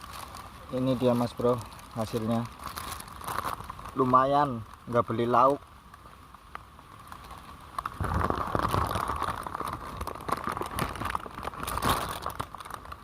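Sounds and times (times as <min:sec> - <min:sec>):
crinkling and rustling handling noise: 0:00.0 - 0:13.0.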